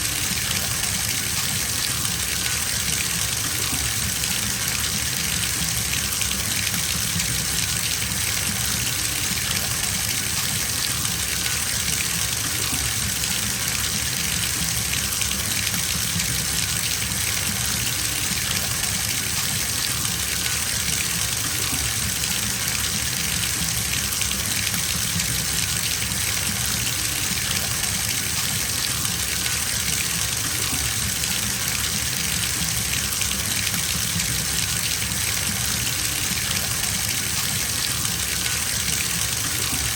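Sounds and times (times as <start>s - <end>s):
tap water filling bathtub: 0.0s - 39.9s.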